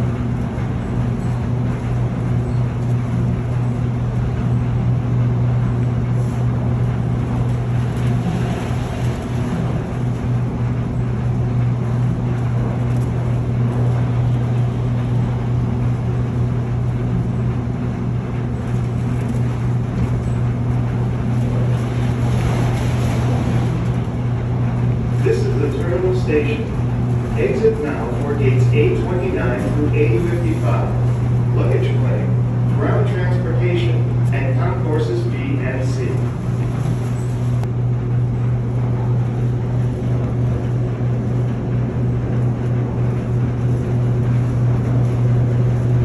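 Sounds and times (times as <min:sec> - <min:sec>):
low hum: 0:00.0 - 0:46.0
tram rolling rush: 0:00.0 - 0:46.0.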